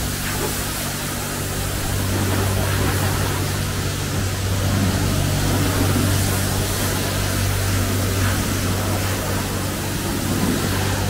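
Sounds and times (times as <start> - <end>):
wash pump humming: 0.0 - 11.0.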